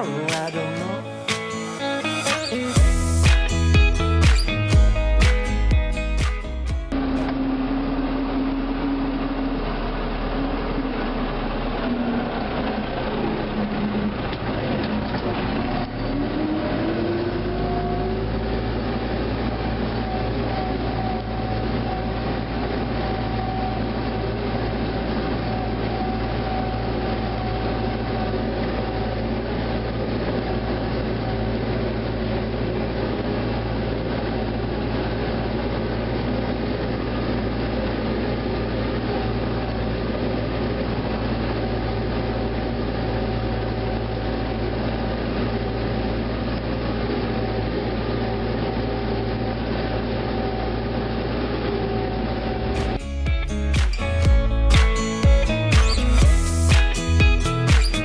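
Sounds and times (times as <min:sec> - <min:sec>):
engine whine: 0:00.0 - 0:58.0
tractor diesel engine running: 0:00.0 - 0:58.0.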